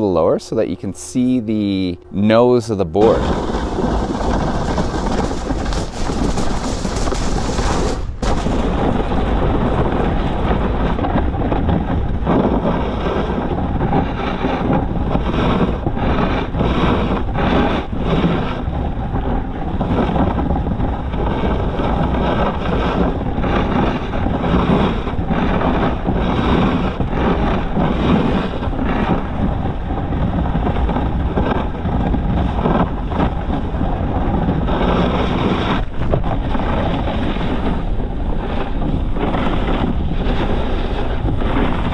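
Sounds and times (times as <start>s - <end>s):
snowboard scraping over snow: 0.0s - 41.9s
wind rushing over microphone: 0.0s - 41.9s.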